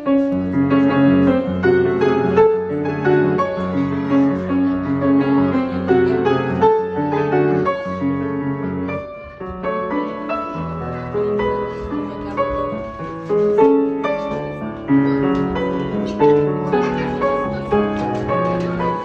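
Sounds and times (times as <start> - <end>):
piano melody over chords: 0.0 - 19.0.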